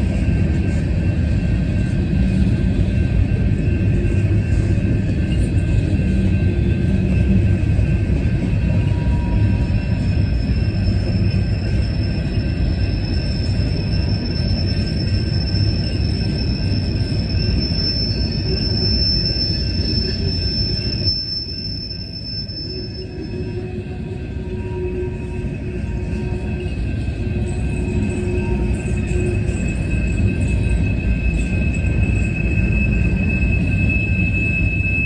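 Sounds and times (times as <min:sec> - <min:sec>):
train wheels rumbling on rail: 0:00.0 - 0:35.0
high wheel squeal: 0:00.2 - 0:35.0.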